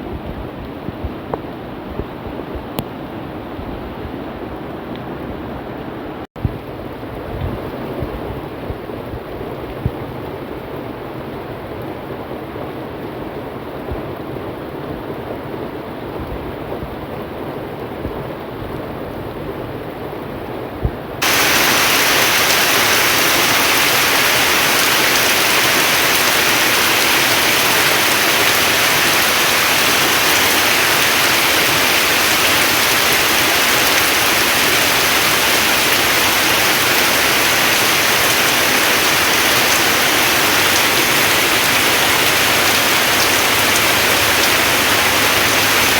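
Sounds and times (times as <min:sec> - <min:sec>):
steady rainfall: 0:06.5 - 0:45.9.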